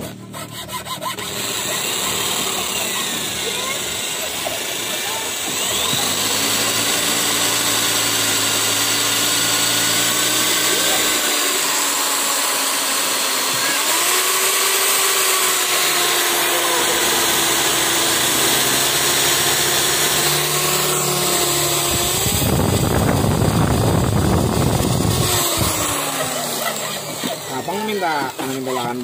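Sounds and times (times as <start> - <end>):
electric hand drill whining: 0.0 - 29.0.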